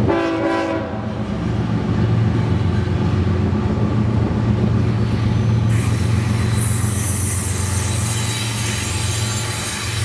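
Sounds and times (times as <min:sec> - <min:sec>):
diesel train engine drone: 0:00.0 - 0:10.0.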